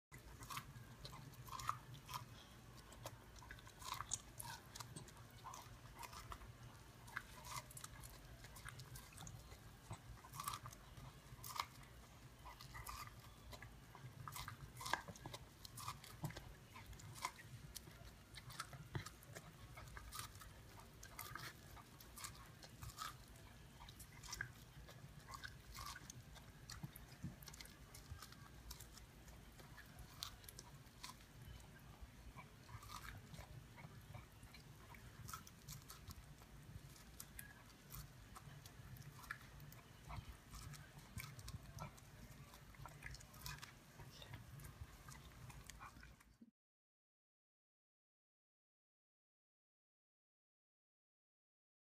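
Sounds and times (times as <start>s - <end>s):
dog crunching corn: 0.1s - 46.4s
faint low hum: 0.1s - 46.5s.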